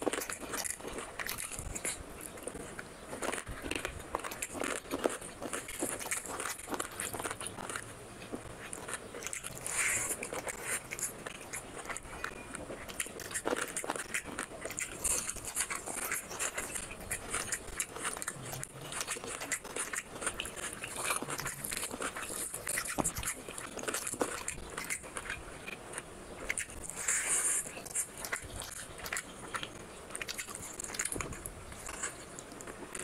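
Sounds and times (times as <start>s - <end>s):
wet chewing and lip-smacking: 0.0s - 33.0s.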